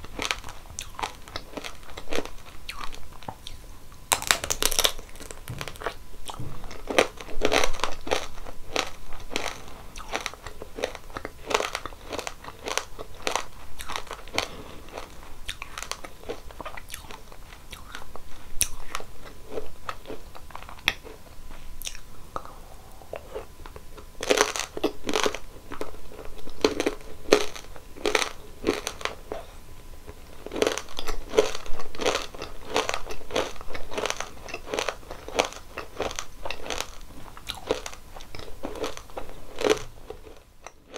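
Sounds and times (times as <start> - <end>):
crisp crunching bites: 0.0 - 21.1, 24.2 - 29.2, 30.1 - 40.9
quiet chewing: 0.0 - 40.9.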